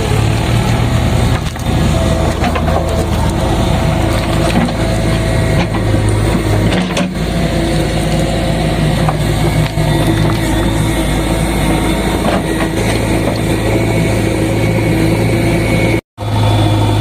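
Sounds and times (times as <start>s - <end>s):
digger diesel engine running: 0.0s - 17.0s.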